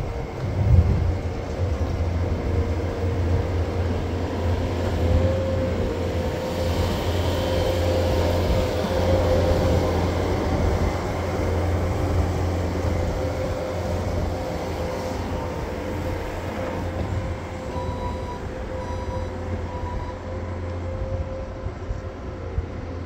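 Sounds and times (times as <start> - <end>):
diesel engine running under load: 0.0 - 23.0
steady whine: 0.0 - 23.0.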